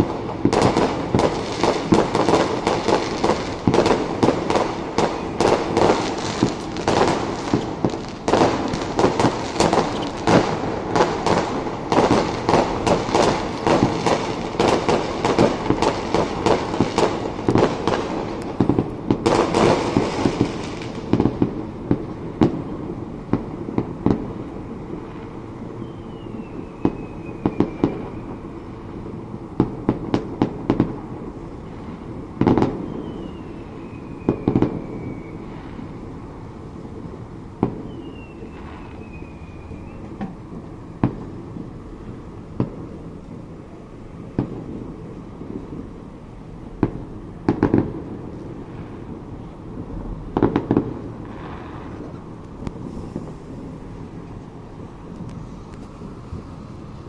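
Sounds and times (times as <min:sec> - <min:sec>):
distant fireworks bangs and crackling: 0:00.0 - 0:57.0.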